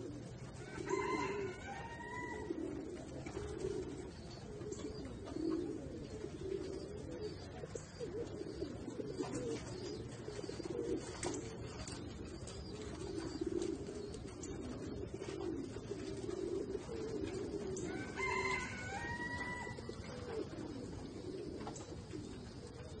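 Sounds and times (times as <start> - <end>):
doves cooing: 0.0 - 23.0.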